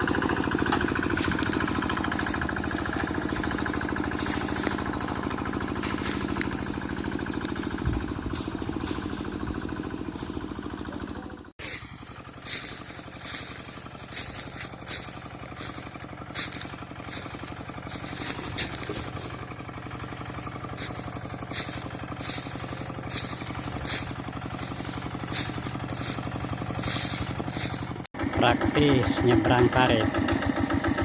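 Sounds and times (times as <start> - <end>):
hand tractor engine running: 0.0 - 31.0.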